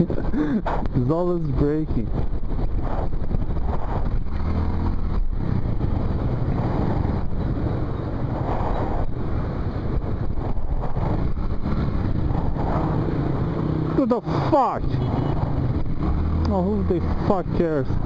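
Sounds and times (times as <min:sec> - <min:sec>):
wind rushing over microphone: 0:00.0 - 0:18.0
motorcycle engine: 0:01.5 - 0:18.0.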